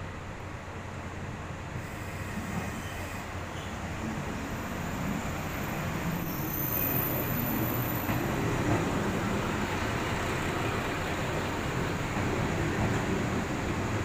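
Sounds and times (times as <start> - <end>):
diesel railcar rumbling on rails: 0.0 - 14.0.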